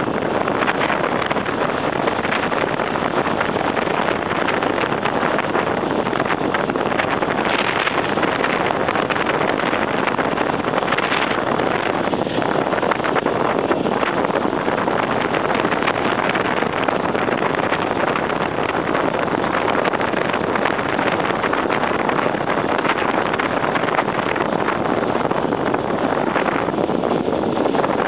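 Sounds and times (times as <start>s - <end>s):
wind rushing on microphone: 0.0s - 28.0s.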